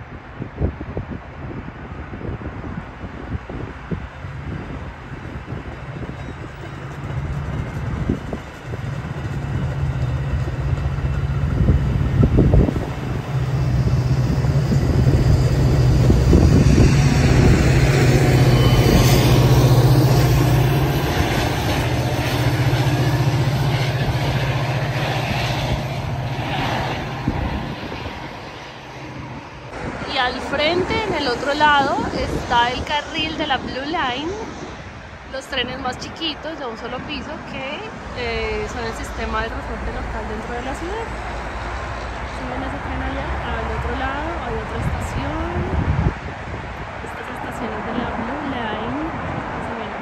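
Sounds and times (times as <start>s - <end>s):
train engine hum: 0.0s - 50.0s
train cars rumbling on rails: 1.7s - 50.0s.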